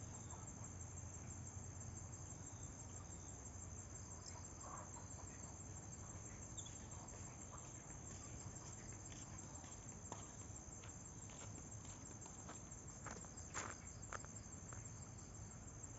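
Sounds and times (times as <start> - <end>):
crickets trilling: 0.0 - 15.9.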